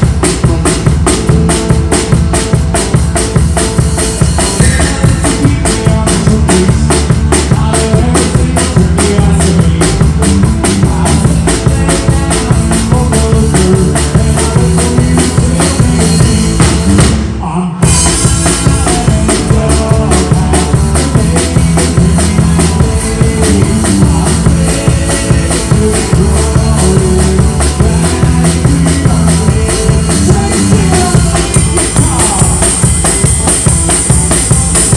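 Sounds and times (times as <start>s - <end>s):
drum kit beat: 0.0s - 34.9s
electric bass: 0.0s - 34.9s
electric guitar: 0.0s - 34.9s.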